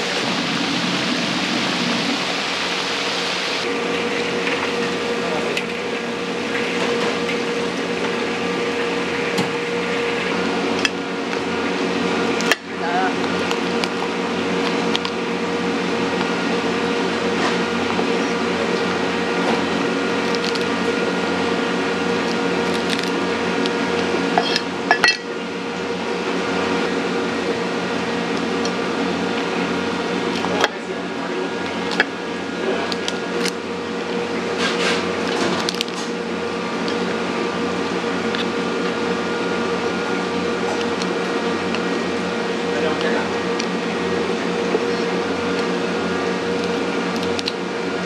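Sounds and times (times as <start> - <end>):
kitchen machinery humming: 0.0 - 48.0.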